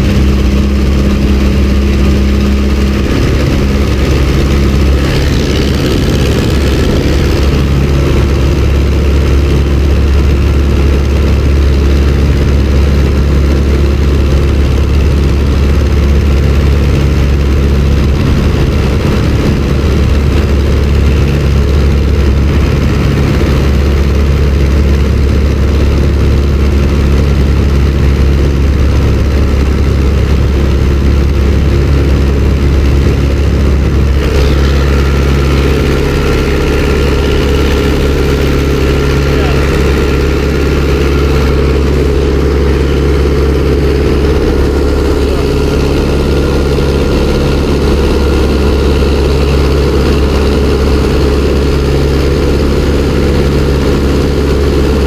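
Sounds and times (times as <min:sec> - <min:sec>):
propeller plane engine: 0:00.0 - 0:55.0.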